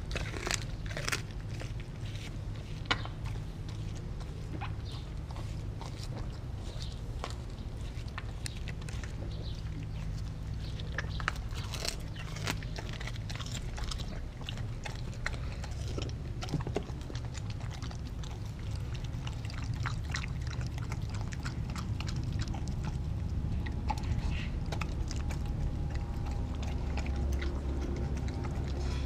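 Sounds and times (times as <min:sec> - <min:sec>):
dog chewing raw meat: 0:00.0 - 0:29.0.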